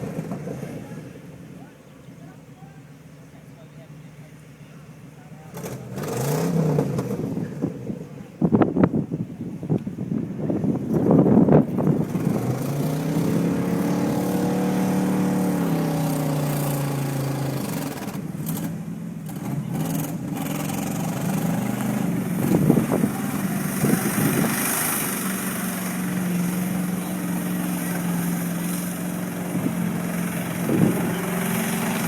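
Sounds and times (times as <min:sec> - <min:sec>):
truck engine revving: 0:00.0 - 0:09.1, 0:09.7 - 0:32.0.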